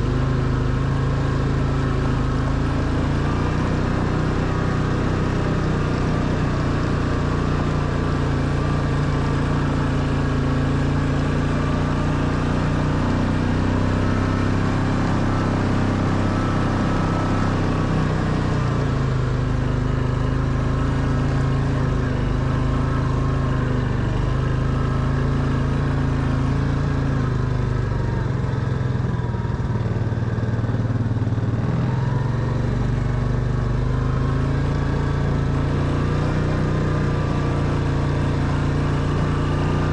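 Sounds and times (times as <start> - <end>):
quad bike engine running: 0.0 - 39.9
tires on gravel track: 0.0 - 39.9.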